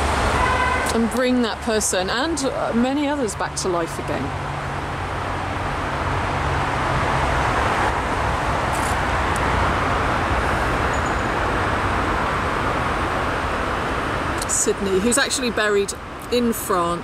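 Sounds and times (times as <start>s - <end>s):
road traffic rushing by: 0.0s - 17.0s.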